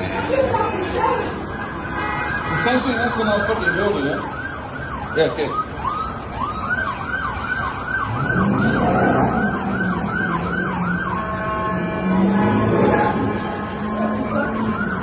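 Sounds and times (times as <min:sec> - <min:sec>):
emergency siren: 0:00.0 - 0:15.0.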